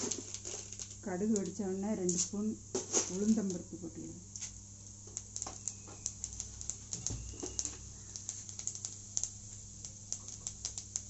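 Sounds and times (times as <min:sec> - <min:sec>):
seeds crackling in hot oil: 0:00.0 - 0:11.0.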